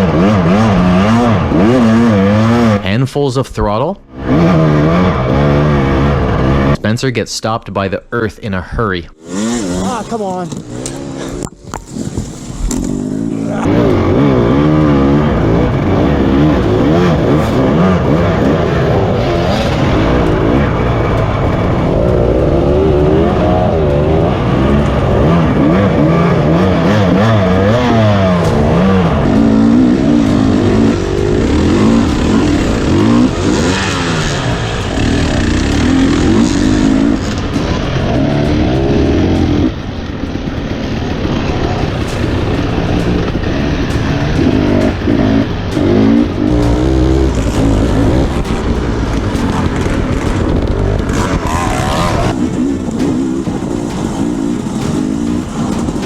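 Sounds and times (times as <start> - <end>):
dirt bike engine revving: 0.0 - 6.9, 9.1 - 56.0
ground noise: 0.0 - 56.0.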